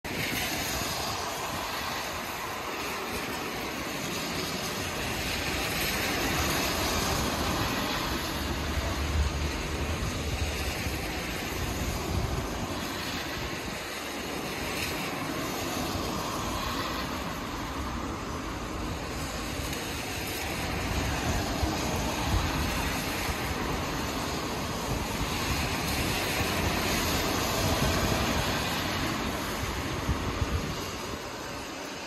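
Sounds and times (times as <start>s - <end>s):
traffic on a wet road: 0.0s - 32.0s.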